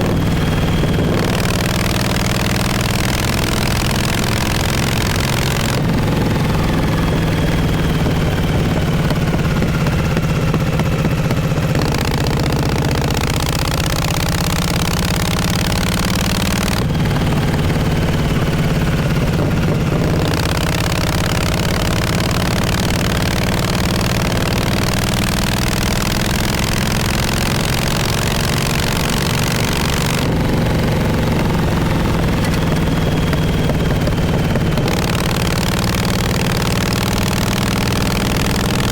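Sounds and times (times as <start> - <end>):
motorcycle exhaust running: 0.0 - 38.9.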